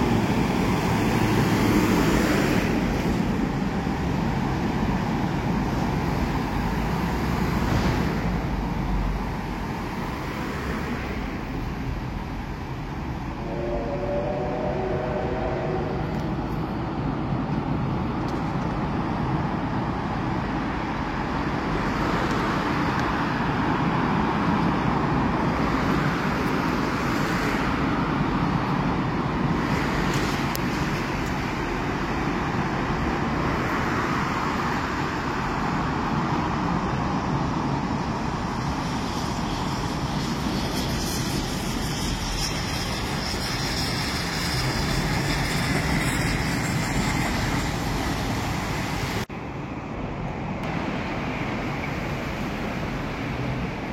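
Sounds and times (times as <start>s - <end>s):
train wheels rumbling on rail: 0.0s - 49.3s.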